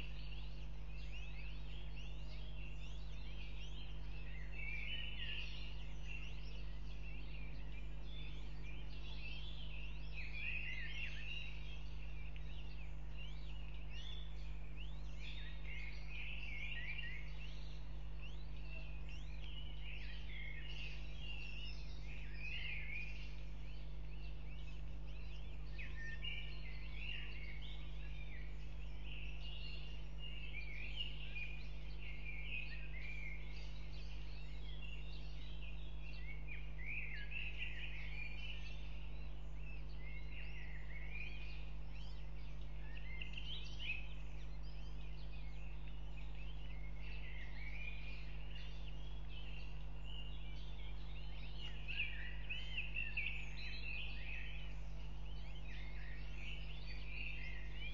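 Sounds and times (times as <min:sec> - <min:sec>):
small birds chirping: 0:00.0 - 0:57.9
steady low hum: 0:00.0 - 0:57.9.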